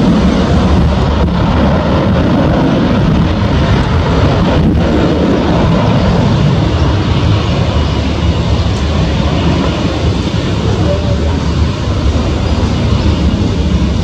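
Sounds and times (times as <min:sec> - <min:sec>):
jet engines deep rumble: 0:00.0 - 0:14.0.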